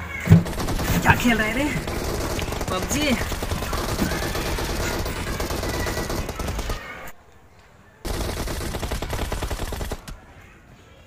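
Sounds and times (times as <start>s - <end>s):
video game automatic gunfire: 0.4s - 7.2s, 8.0s - 10.3s.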